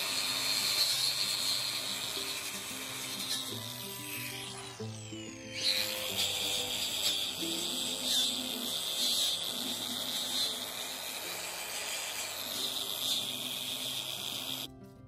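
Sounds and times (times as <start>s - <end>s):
angle grinder on metal: 0.0s - 14.8s
background music: 0.0s - 15.0s.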